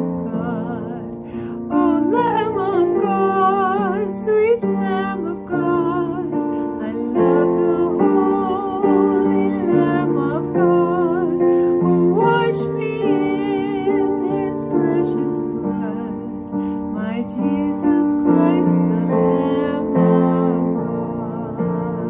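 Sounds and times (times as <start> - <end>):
woman singing with vibrato: 0.0 - 22.0.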